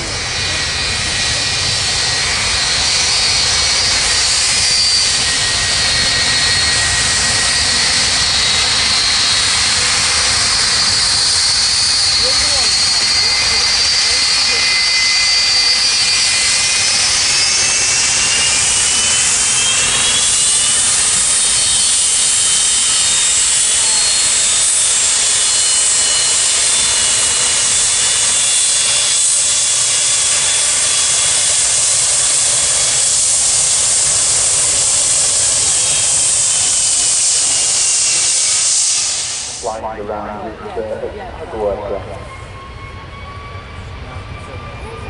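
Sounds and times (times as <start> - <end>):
jet engines running loud: 0.0 - 45.0.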